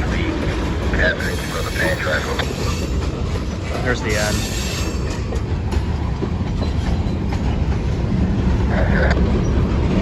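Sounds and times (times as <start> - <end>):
freight train passing: 0.0 - 10.0
wheels clattering over rail joints: 0.0 - 10.0.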